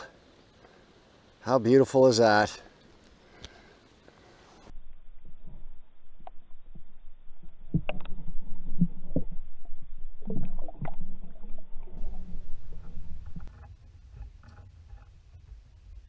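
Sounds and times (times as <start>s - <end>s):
faint low hum: 0.0s - 16.0s
muffled underwater water sloshing: 2.8s - 16.0s.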